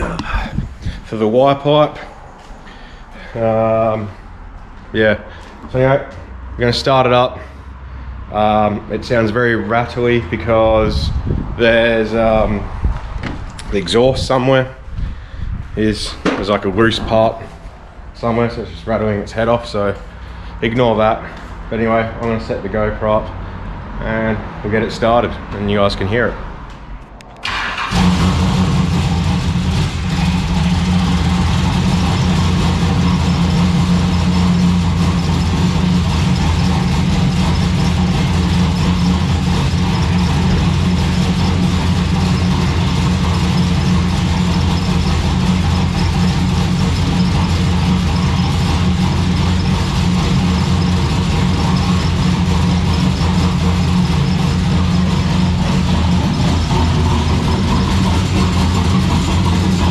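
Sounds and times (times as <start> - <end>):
exhaust rattle: 0.0 - 7.5, 8.3 - 26.3, 27.4 - 59.9
car engine idling: 0.0 - 26.3, 27.4 - 59.9.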